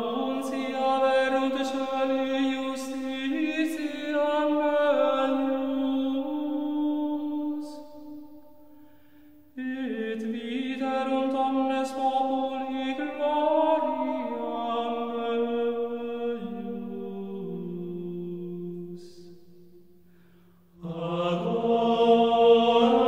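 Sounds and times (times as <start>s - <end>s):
slow chant-like soundtrack music: 0.0s - 23.0s.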